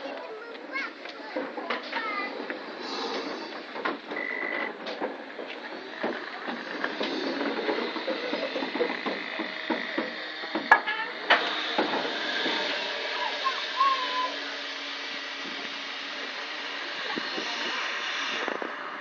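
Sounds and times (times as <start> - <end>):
steam hissing: 2.0 - 19.0.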